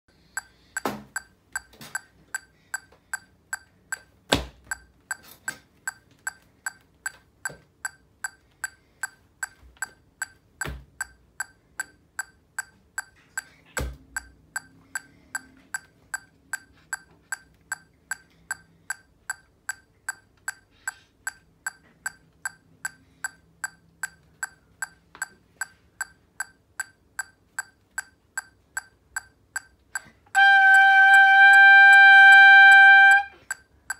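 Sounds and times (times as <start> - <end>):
metronome clicking: 0.2 - 33.9.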